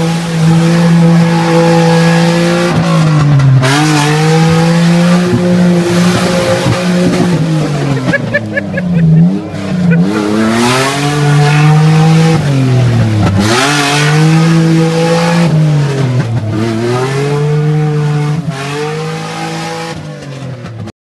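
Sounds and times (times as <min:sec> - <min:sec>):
engine revving hard: 0:00.0 - 0:20.1.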